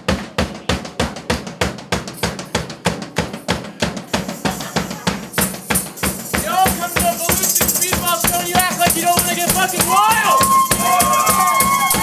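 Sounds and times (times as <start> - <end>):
cymbals: 0.0 - 12.0
drum kit playing fast beat: 0.0 - 12.0.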